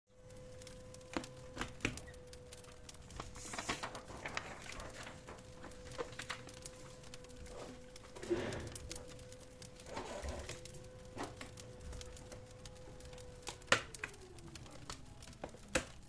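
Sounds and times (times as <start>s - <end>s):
wood fire crackling: 0.1s - 16.0s.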